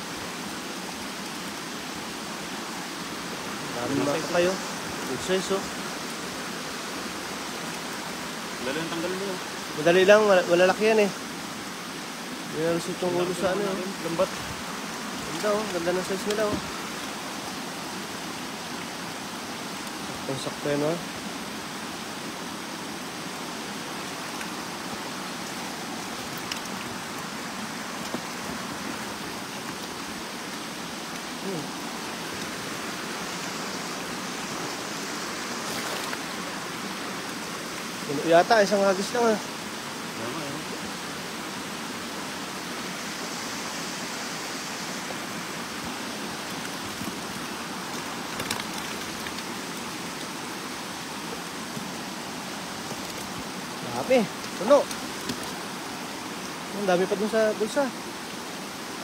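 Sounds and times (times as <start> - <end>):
river water rushing over stones: 0.0 - 59.0.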